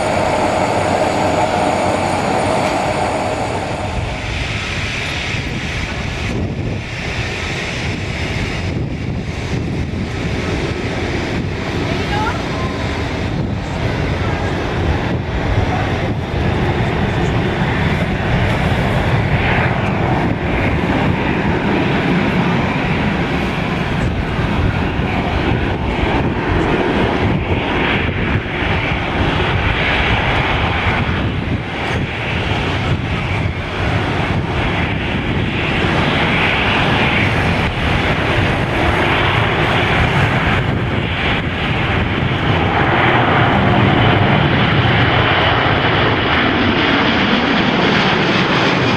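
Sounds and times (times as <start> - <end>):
jet engines on takeoff: 0.0 - 48.9.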